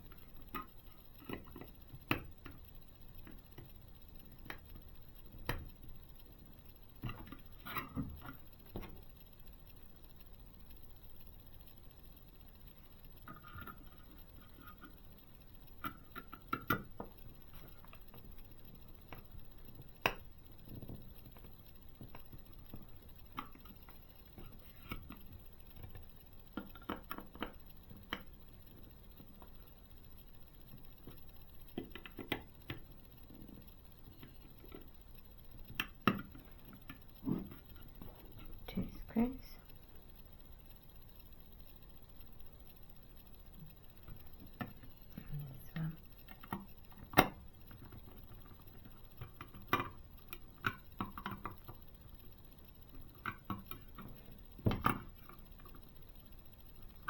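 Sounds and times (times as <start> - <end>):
faint clicks and taps: 0.0 - 57.0.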